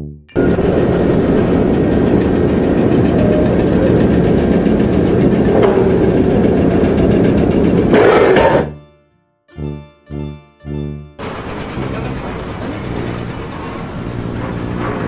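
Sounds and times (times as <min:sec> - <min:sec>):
engine running with rumble: 0:00.4 - 0:08.9, 0:11.2 - 0:15.0.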